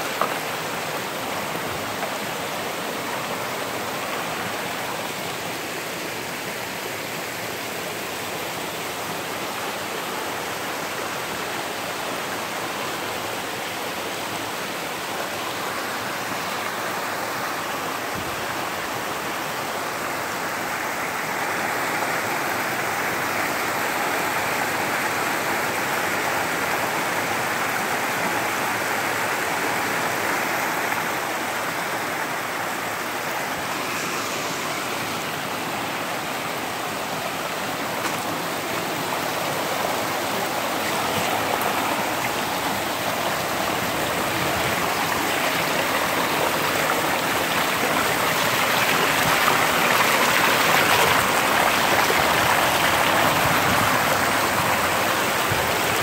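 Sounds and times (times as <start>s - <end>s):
creek water splashing over boulders: 0.0s - 56.0s.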